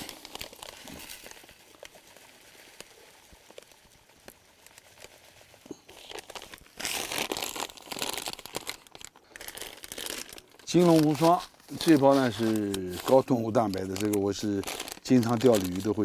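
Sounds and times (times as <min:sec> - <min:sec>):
plastic packet crinkling: 0:00.0 - 0:16.0
powder pouring: 0:00.0 - 0:16.0.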